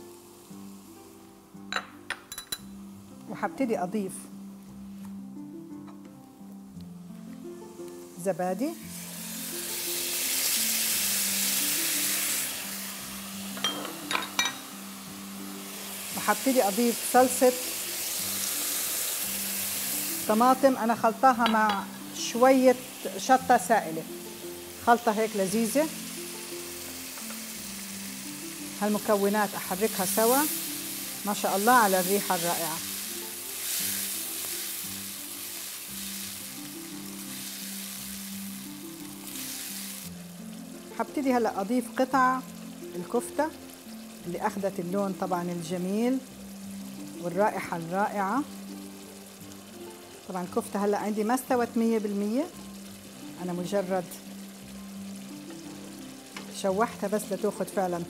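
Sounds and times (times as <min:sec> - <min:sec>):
yogurt sizzling in hot oil: 0:00.0 - 0:01.8, 0:02.6 - 0:58.0
soft background music: 0:00.0 - 0:58.0.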